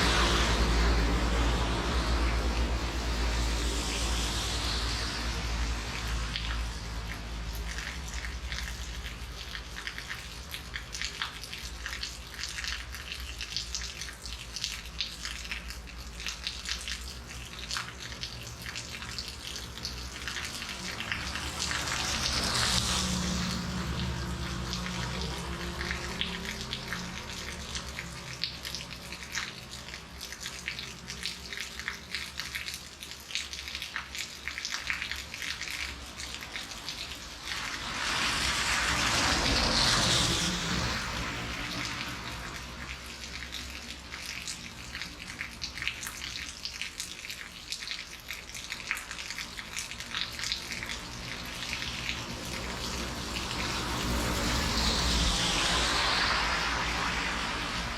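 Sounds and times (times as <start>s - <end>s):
rain pattering on hard surface: 0.0s - 57.9s.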